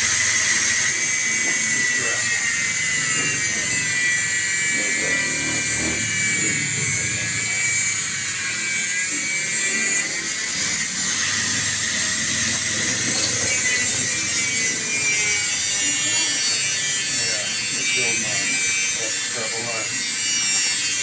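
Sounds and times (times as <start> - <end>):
power tool whining on metal: 0.0 - 21.0.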